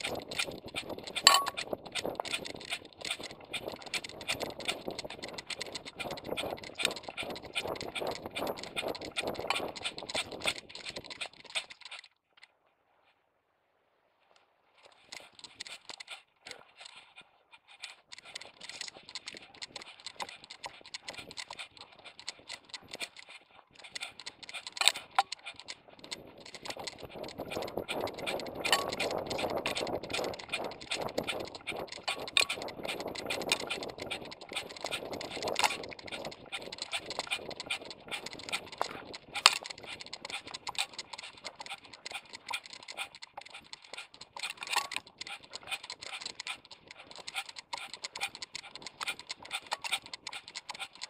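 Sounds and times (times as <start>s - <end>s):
camera rattling and knocking: 0.0s - 12.2s, 14.8s - 51.0s.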